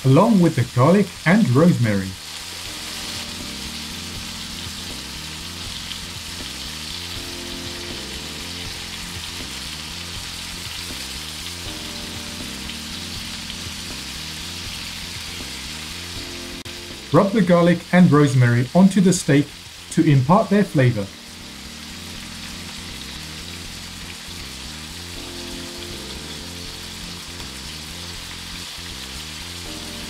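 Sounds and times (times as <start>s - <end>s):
steaks sizzling in frying pan: 1.1s - 17.4s, 19.4s - 19.9s, 21.1s - 30.0s.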